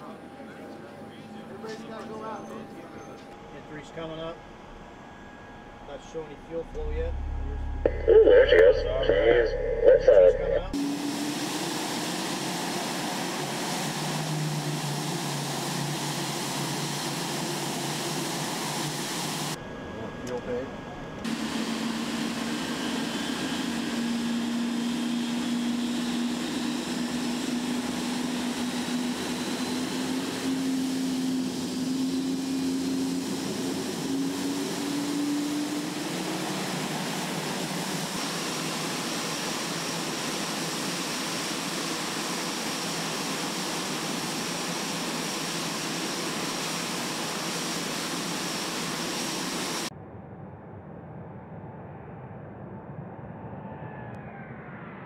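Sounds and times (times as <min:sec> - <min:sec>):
high engine whine: 0:00.0 - 0:55.0
jet engine starting up: 0:01.6 - 0:50.3.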